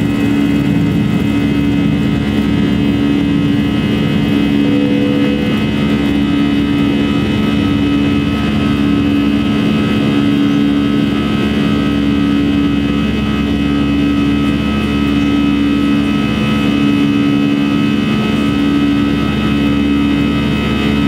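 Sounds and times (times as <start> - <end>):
jet engines droning in cabin: 0.0 - 21.0.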